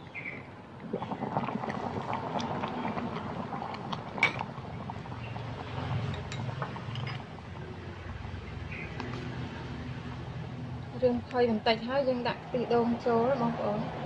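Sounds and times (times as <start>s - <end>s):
water boiling and bubbling: 0.0s - 14.0s.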